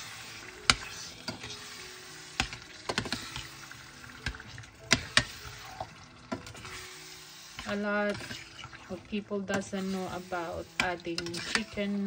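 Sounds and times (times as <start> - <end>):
sauce sizzling: 0.0 - 12.0.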